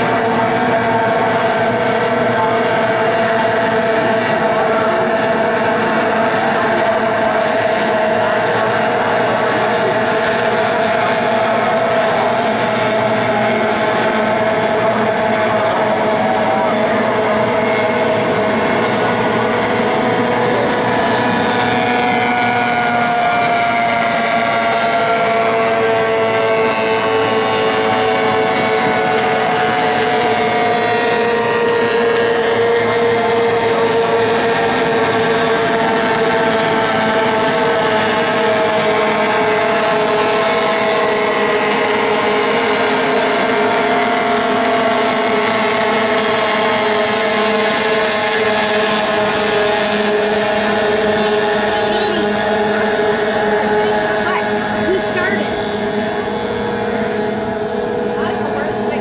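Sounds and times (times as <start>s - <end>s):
racing boat engines whining: 0.0s - 59.0s.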